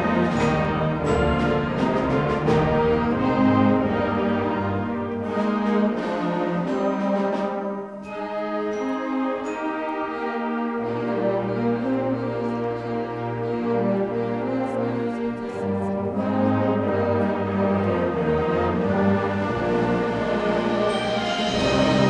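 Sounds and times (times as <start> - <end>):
orchestral music with brass: 0.0 - 22.0.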